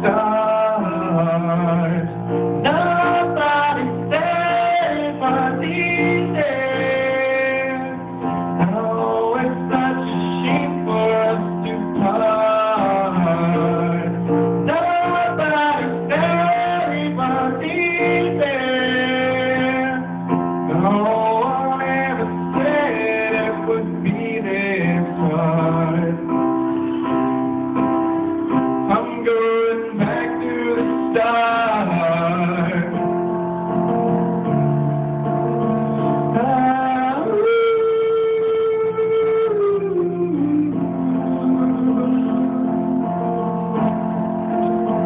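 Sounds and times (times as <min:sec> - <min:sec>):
man singing into microphone: 0:00.0 - 0:27.2, 0:28.5 - 0:33.4, 0:36.0 - 0:43.9
guitar accompaniment: 0:00.0 - 0:45.0.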